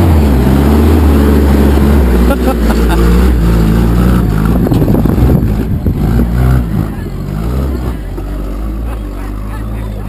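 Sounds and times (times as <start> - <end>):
truck engine under load: 0.0 - 10.0.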